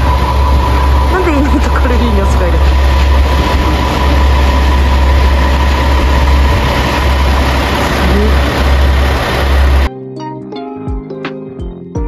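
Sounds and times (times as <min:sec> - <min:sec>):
train rumbling: 0:00.0 - 0:09.9.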